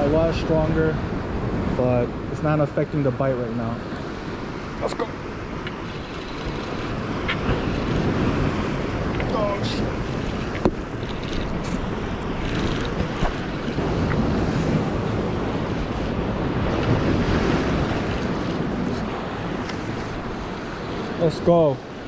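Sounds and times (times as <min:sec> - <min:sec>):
wind buffeting microphone: 0:03.7 - 0:22.0
surf breaking against rocks: 0:04.0 - 0:22.0.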